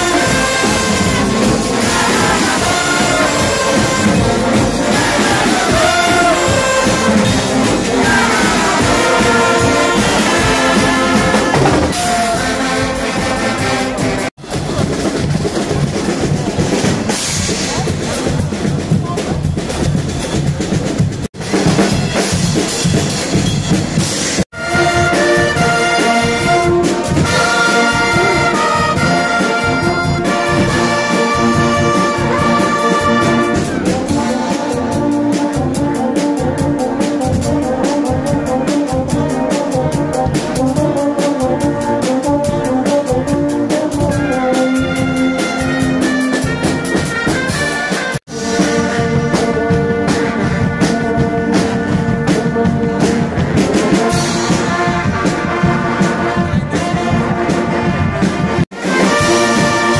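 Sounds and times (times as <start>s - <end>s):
brass instruments playing chords: 0.0s - 19.0s, 23.9s - 59.9s
drums keeping a steady beat: 0.0s - 59.9s.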